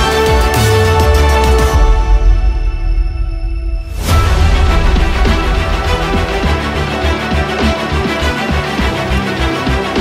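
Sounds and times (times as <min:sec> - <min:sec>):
music with strong bass line: 0:00.0 - 0:02.6, 0:04.0 - 0:10.0.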